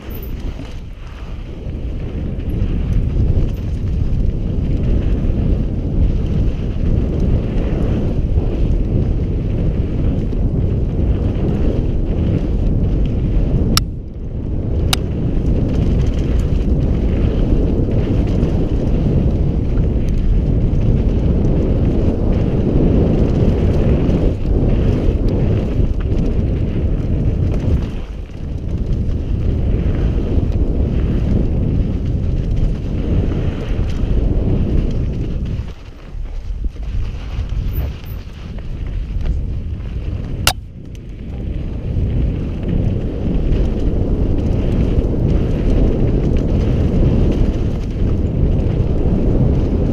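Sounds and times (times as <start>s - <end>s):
bike rattling: 0.0s - 49.9s
wind buffeting microphone: 0.0s - 49.9s.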